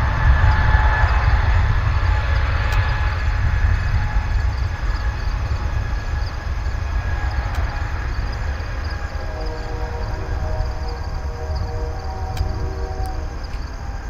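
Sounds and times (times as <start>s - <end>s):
faint jet engine whine: 0.0s - 14.0s
jet engines deep rumble: 0.0s - 14.0s.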